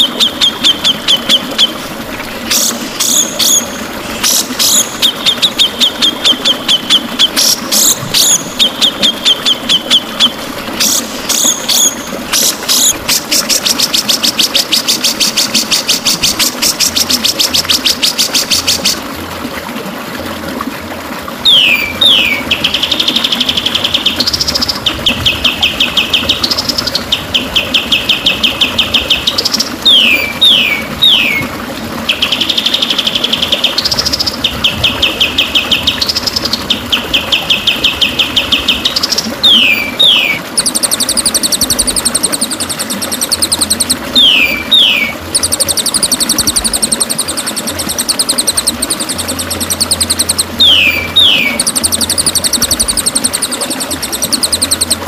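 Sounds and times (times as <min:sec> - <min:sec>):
bird song with whistles and trills: 0:00.0 - 0:01.8, 0:02.5 - 0:19.0, 0:21.4 - 0:55.0.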